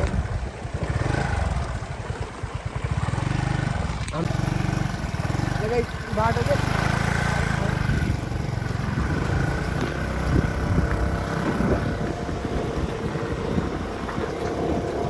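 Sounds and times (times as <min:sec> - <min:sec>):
motorcycle engine running under load: 0:00.0 - 0:15.0.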